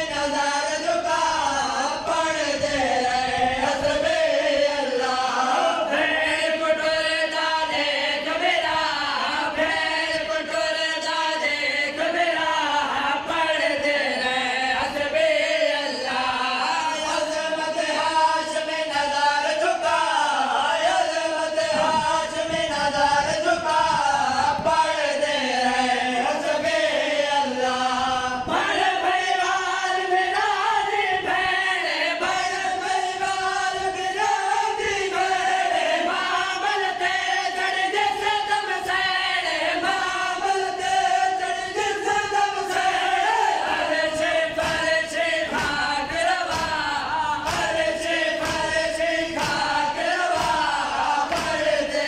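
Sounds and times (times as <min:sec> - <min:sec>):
men chanting a lament: 0:00.0 - 0:52.0.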